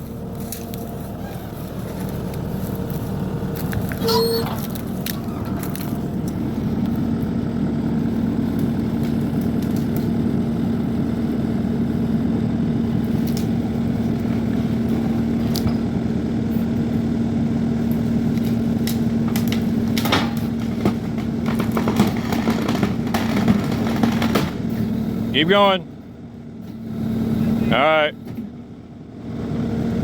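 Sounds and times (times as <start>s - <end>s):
skid steer engine running: 0.0s - 30.0s.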